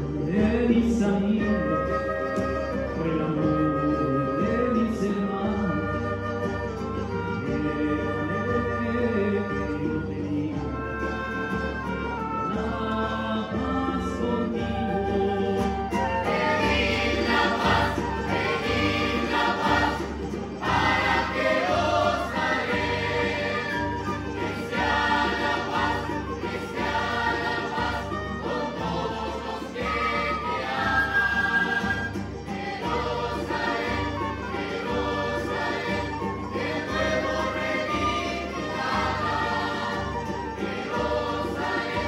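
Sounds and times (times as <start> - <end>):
cellos: 0.0 - 42.0
classical guitars: 0.0 - 42.0
flute: 0.0 - 42.0
choir singing a hymn: 7.5 - 42.0.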